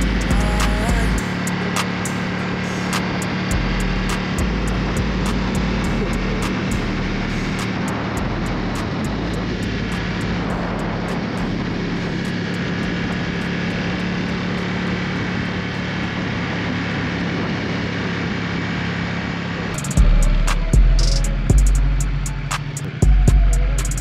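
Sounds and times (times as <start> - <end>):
wind rushing over microphone: 0.0 - 20.1
motorcycle engine cruising: 0.0 - 24.0.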